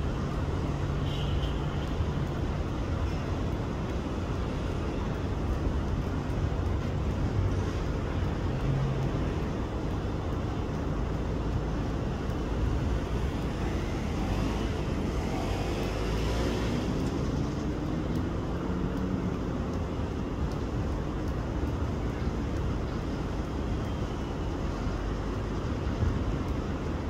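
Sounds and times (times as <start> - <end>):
urban traffic hum: 0.0 - 27.0.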